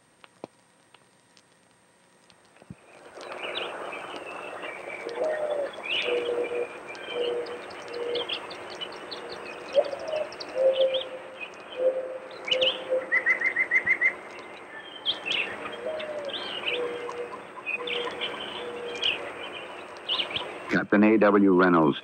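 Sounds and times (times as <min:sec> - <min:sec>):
low repeated bird call: 0:02.8 - 0:20.7
high bird chirps and songs: 0:02.9 - 0:20.7.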